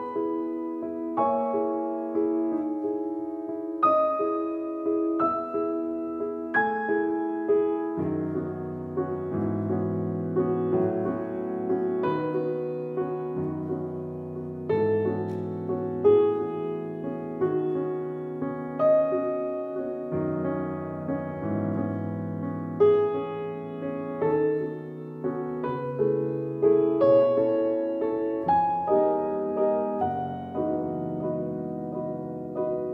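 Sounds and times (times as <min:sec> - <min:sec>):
slow piano music: 0:00.0 - 0:32.9.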